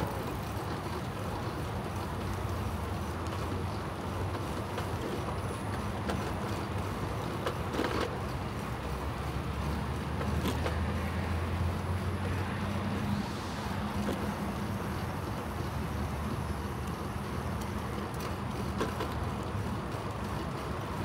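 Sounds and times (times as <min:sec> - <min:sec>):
bicycle tyre noise: 0:00.0 - 0:21.0.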